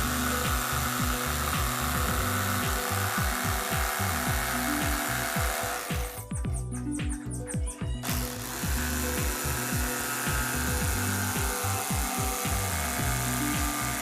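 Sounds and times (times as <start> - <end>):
power tool running: 0.0 - 6.3, 8.0 - 14.0
background music with steady beat: 0.0 - 14.0.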